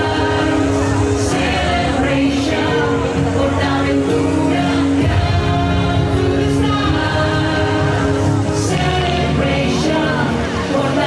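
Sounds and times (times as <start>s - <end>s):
music with singing voices: 0.0s - 11.0s.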